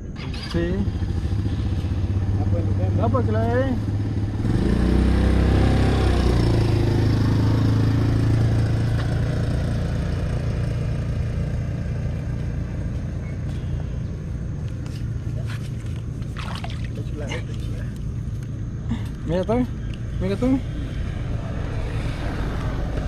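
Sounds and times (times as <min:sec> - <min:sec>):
motor engine running: 0:00.0 - 0:21.0.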